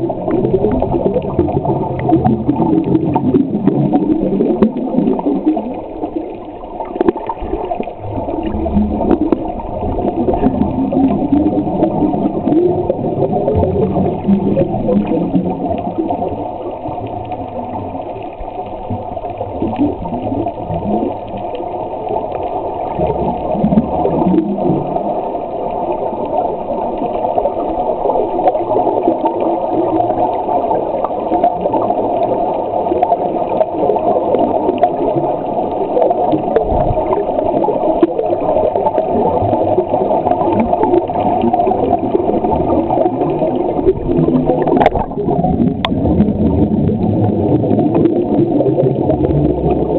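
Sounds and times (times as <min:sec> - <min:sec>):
air bubbles crackling: 0:00.0 - 0:49.9
underwater water rush: 0:00.0 - 0:49.9.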